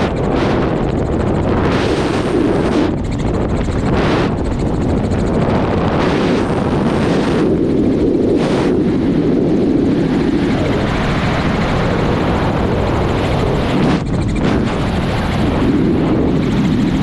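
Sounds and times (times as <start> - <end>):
helicopter rotor and engine noise: 0.0 - 17.0.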